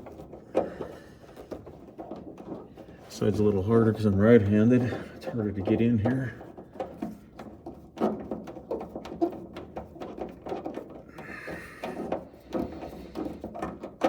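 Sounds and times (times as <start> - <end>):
clicks and knocks of hand work: 0.0 - 14.0.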